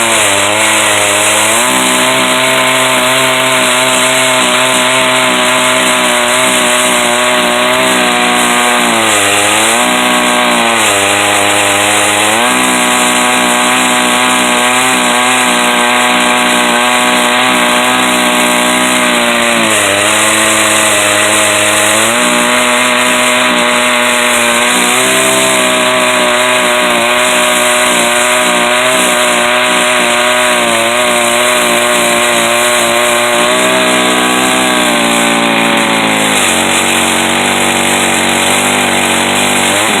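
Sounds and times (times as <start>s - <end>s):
chainsaw ripping along log: 0.0s - 40.0s.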